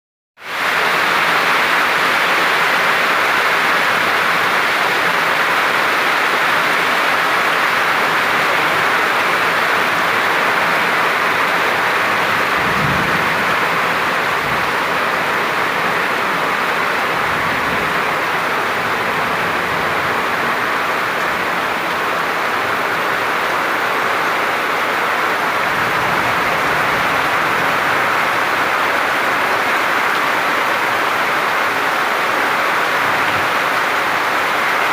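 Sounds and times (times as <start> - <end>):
heavy rain falling: 0.4 - 34.9.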